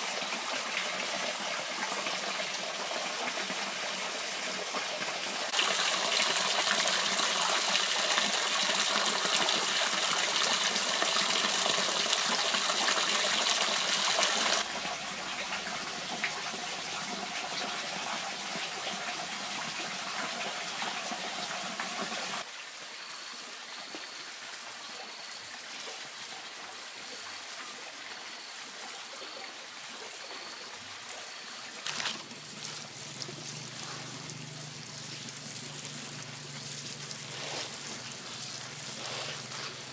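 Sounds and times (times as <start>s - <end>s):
running water: 0.0s - 22.8s, 24.0s - 39.9s.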